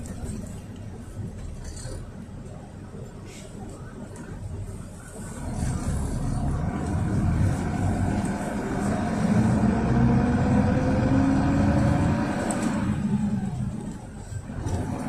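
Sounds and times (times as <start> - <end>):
diesel bus engine accelerating: 0.0 - 15.0
road rumble: 0.0 - 15.0.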